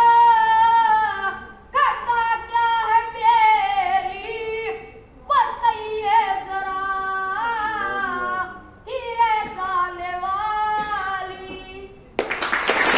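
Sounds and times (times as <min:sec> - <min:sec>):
boy singing unaccompanied: 0:00.0 - 0:12.1.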